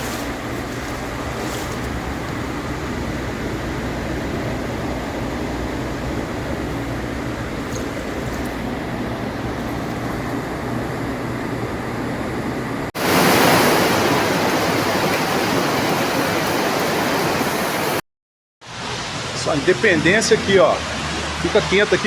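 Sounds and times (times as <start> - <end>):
rushing water: 0.0 - 18.0, 18.6 - 22.0.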